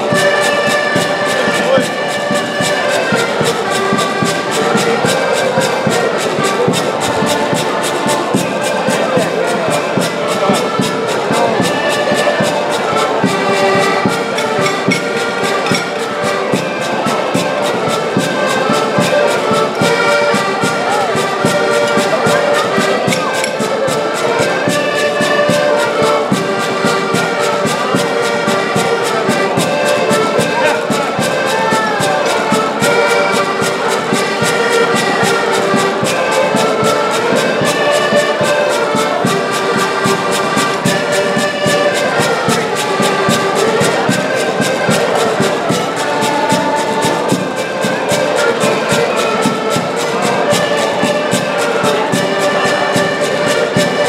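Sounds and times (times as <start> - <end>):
accordions playing folk tune: 0.0 - 54.0.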